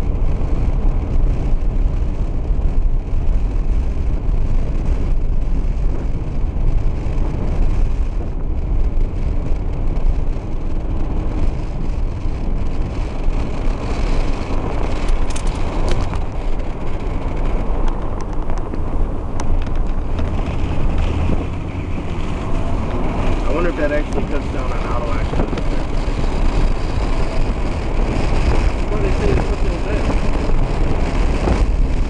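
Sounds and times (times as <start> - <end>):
road and wind noise in car: 0.0 - 32.0.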